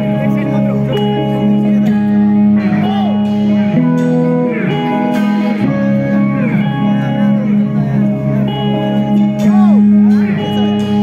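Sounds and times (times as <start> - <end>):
bass line: 0.0 - 11.0
electric guitars: 0.0 - 11.0
lead guitar bending notes: 0.0 - 11.0.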